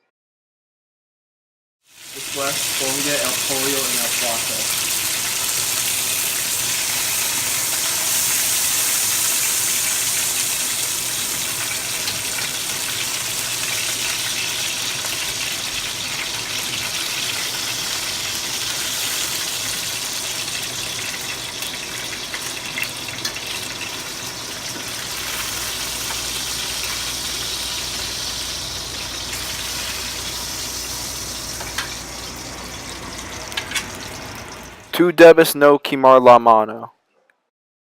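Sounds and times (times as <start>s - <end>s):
chicken sizzling in a frying pan: 1.8s - 34.9s.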